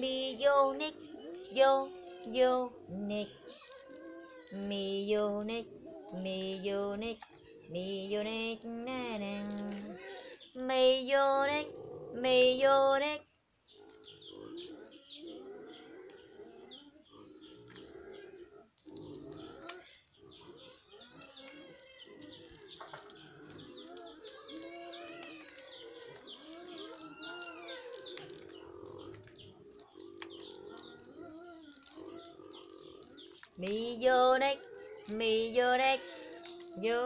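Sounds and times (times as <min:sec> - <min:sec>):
birds chirping and calling: 0:00.0 - 0:12.2, 0:13.7 - 0:37.0.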